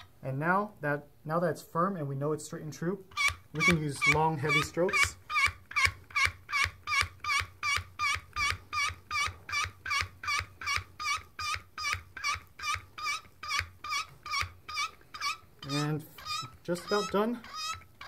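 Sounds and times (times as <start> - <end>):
hand pump squeaking: 3.1 - 18.0.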